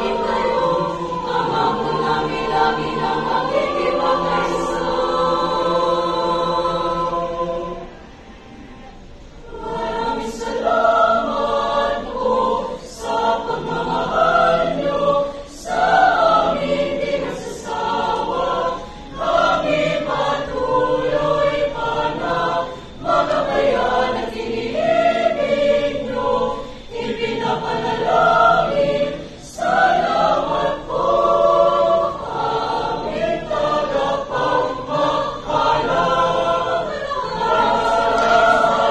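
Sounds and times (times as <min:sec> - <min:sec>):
women's choir singing in harmony: 0:00.0 - 0:38.9.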